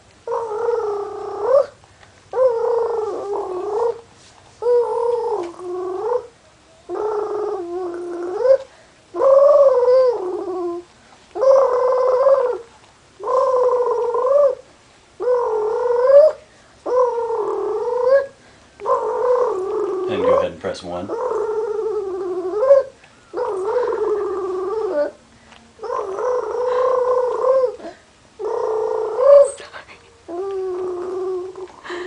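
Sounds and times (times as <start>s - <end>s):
baby cooing: 2.4s - 4.0s, 4.6s - 6.3s, 6.9s - 14.6s, 15.2s - 25.2s, 25.8s - 29.7s, 30.3s - 32.0s.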